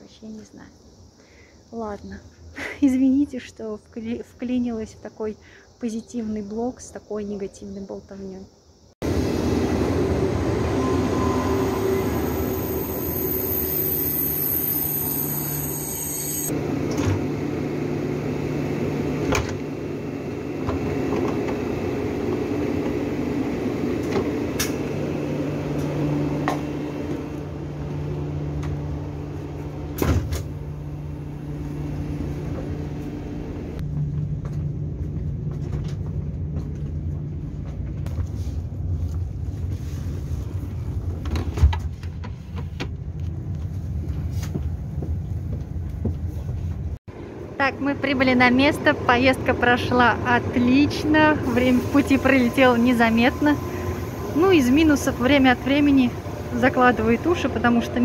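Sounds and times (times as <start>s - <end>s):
train hum and rumble: 8.7s - 58.0s.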